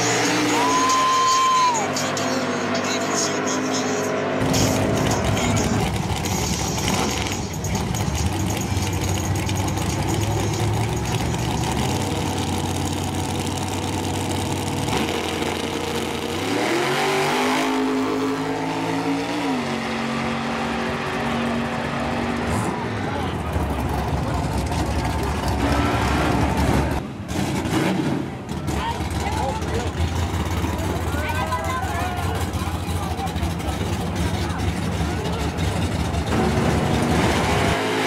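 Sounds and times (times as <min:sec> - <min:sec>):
engine revving: 0:00.0 - 0:38.0
race car engines running: 0:00.0 - 0:38.0.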